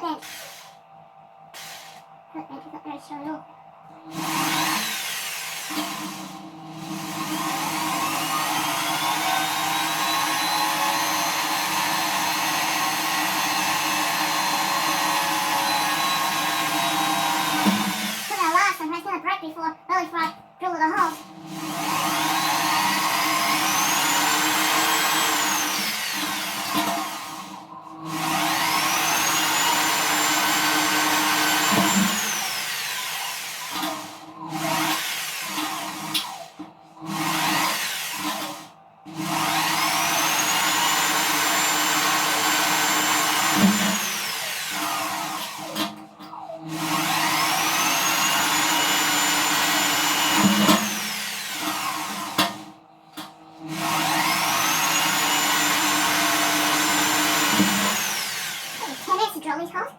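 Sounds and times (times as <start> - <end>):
electric drill drilling steel: 0.0 - 0.8, 1.6 - 2.1, 4.1 - 18.6, 21.0 - 52.7, 53.6 - 59.3.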